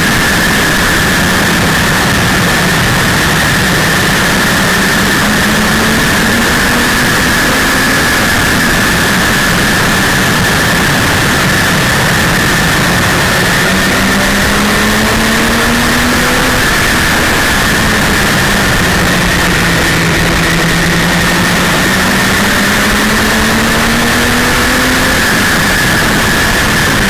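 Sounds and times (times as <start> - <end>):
racing engine running hard: 0.0 - 27.0
wind and road noise: 0.0 - 27.0.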